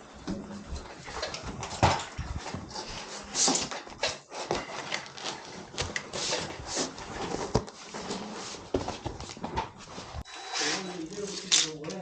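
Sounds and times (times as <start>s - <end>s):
foam boards rustling and scraping: 0.2s - 11.5s.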